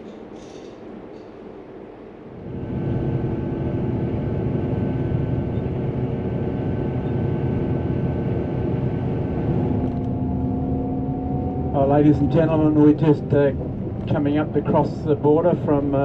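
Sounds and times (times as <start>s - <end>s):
coach engine drone: 0.0s - 16.0s
road noise: 2.2s - 16.0s.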